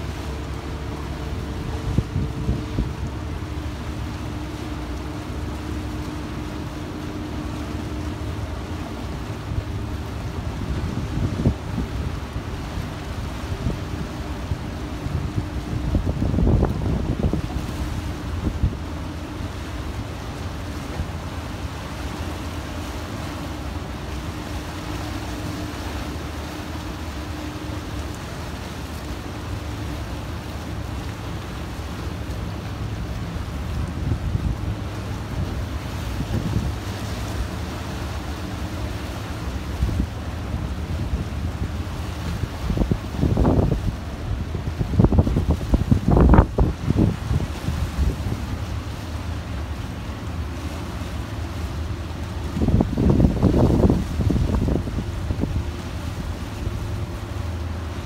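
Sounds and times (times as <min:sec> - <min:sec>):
choppy water: 0:00.0 - 0:58.0
wind rumbling on microphone: 0:00.0 - 0:58.0.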